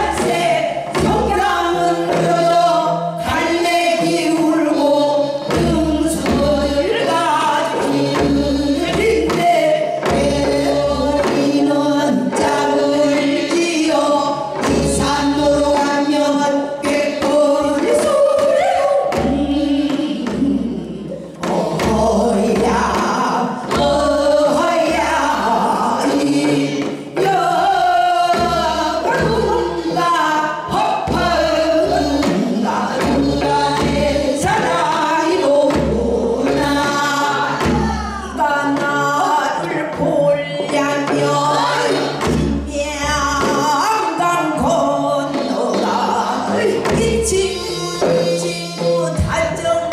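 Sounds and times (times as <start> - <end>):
low drum beats: 0.0 - 49.9
women singing folk song: 0.0 - 49.9.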